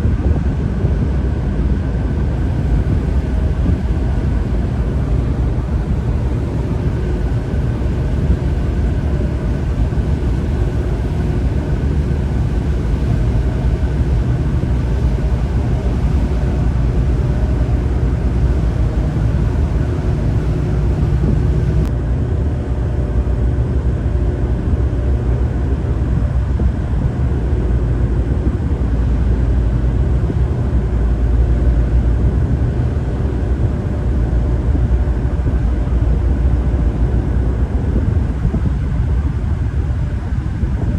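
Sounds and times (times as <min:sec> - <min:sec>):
boat engine droning: 0:00.0 - 0:21.9, 0:27.1 - 0:40.9.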